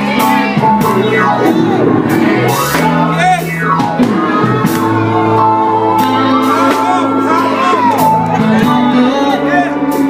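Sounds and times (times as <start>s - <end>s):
gospel band with electric guitar: 0.0s - 10.0s.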